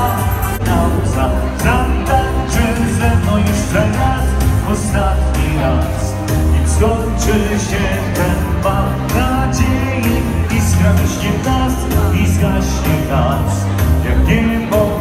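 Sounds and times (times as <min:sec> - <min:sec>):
dance music with singer: 0:00.0 - 0:15.0
heavy bass beat: 0:00.0 - 0:15.0.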